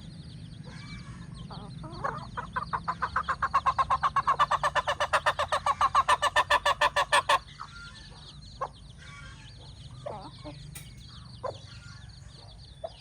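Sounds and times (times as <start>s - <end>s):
chicks peeping: 0.1s - 13.0s.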